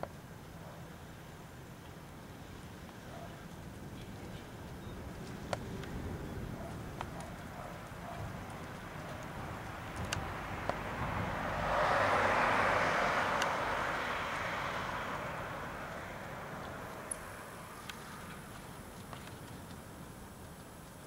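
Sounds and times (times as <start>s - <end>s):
strong wind rumbling on microphone: 3.5s - 21.0s.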